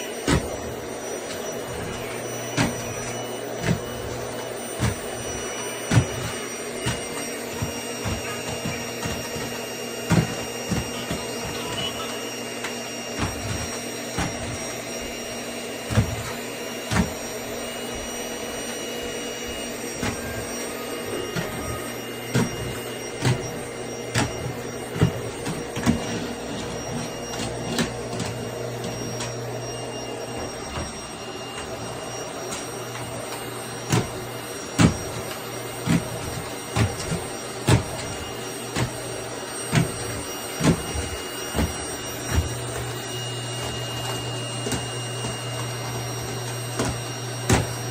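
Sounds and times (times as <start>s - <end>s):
vacuum cleaner humming: 0.0s - 47.9s.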